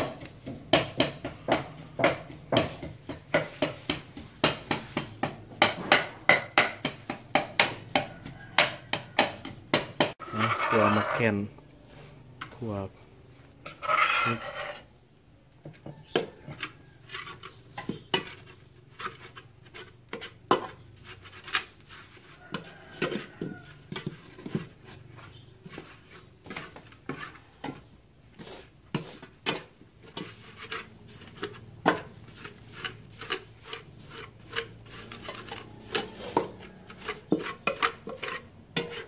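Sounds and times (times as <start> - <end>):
metal ladle scraping a pot: 0.0 - 12.6, 13.4 - 15.0, 15.7 - 39.0.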